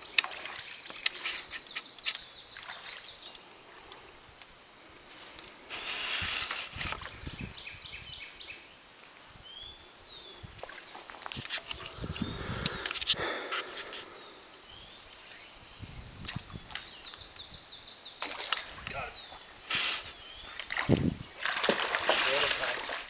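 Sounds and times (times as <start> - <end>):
birds chirping: 0.0 - 23.0
rustle: 0.0 - 23.0.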